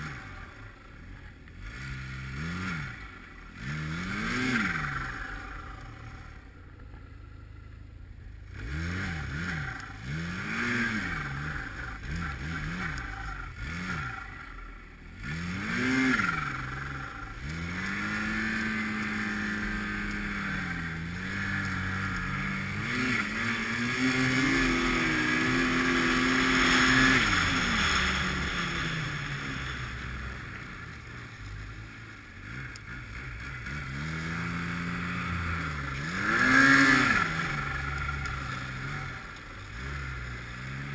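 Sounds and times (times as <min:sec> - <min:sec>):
snowmobile engine revving: 0:00.0 - 0:06.5, 0:08.4 - 0:40.9.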